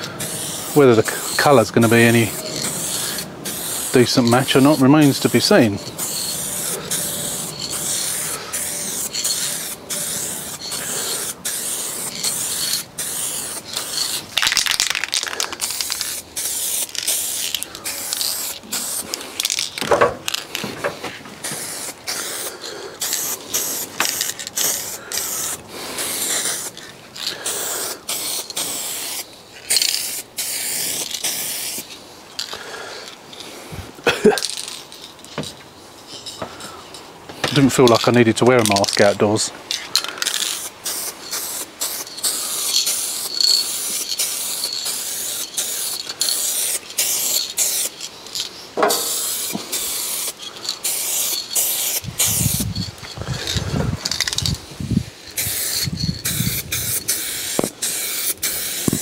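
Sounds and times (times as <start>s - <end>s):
paint spray hissing: 0.0s - 59.0s.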